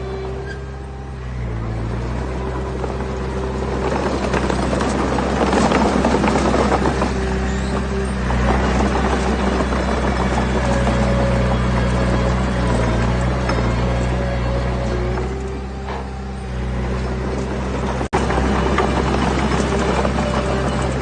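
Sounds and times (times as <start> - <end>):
diesel engine running: 0.0 - 21.0
rough rattling crunching: 0.6 - 21.0.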